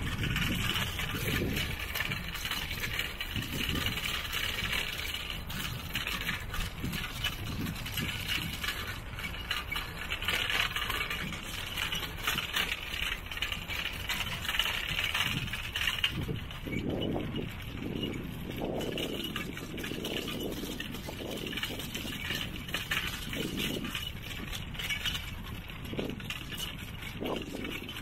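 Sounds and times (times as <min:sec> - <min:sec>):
bicycle low rumble: 0:00.0 - 0:28.0
bicycle rattles and clicks: 0:00.0 - 0:28.0.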